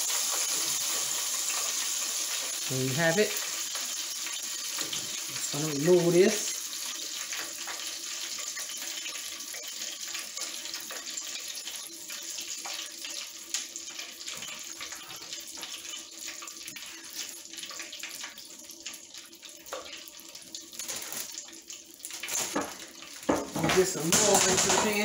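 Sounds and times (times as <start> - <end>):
frying oil sizzling: 0.0 - 25.0.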